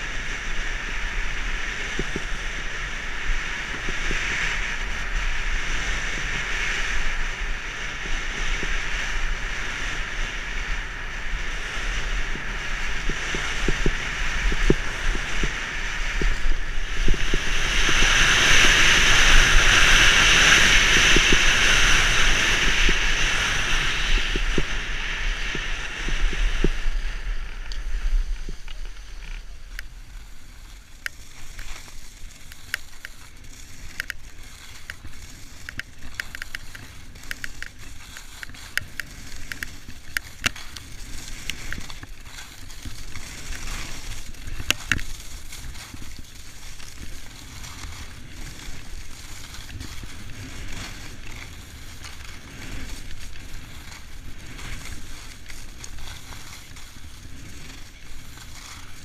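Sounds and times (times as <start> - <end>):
skis and poles clicking: 0.0 - 59.0
skis scraping over snow: 0.0 - 59.0
wind rumbling on microphone: 0.0 - 59.0.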